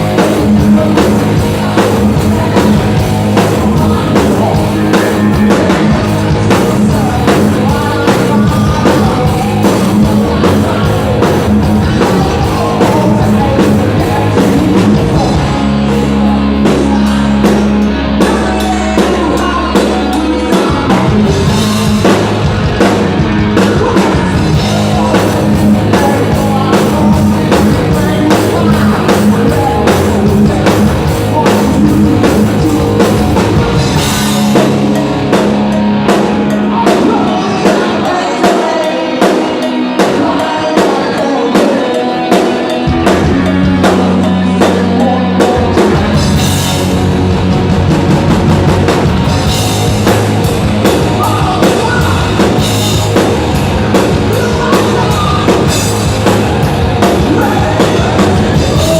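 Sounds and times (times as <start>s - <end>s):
person singing: 0.0s - 22.6s, 23.4s - 35.3s, 36.1s - 46.8s, 51.0s - 58.9s
distorted electric guitars: 0.0s - 58.9s
drum kit: 0.0s - 58.9s
hard rock band playing: 0.0s - 58.9s.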